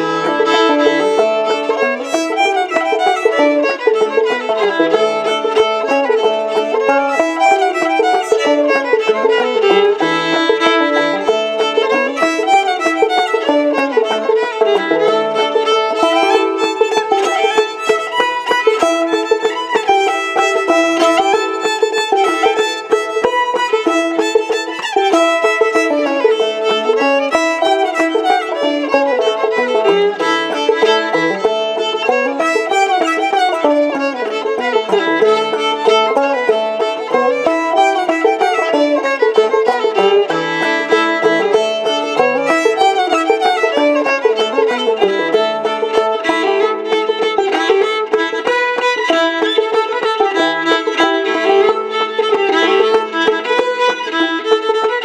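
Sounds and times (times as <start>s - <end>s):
banjo plucked rhythm: 0.0s - 55.0s
fiddle melody: 0.0s - 55.0s.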